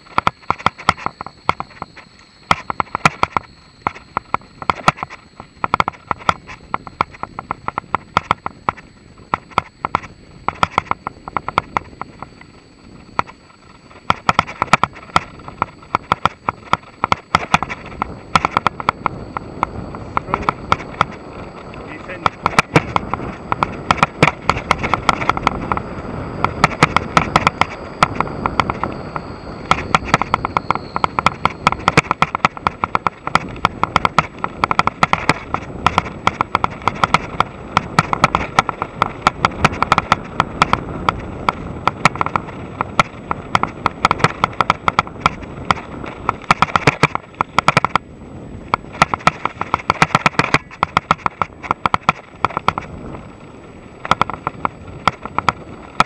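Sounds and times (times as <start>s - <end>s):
mountain bike rattling: 0.0s - 56.0s
wind and tyre noise: 0.0s - 56.0s.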